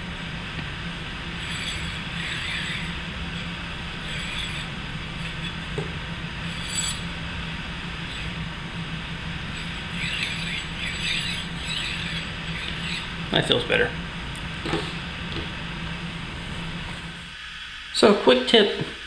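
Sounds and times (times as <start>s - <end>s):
ball bearing rolling on rail: 0.0s - 17.3s.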